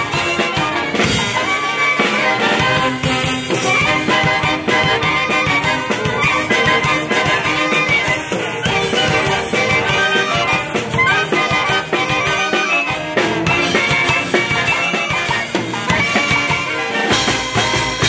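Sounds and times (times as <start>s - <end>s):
brass band playing: 0.0s - 18.0s
cymbals and drums: 0.0s - 18.0s.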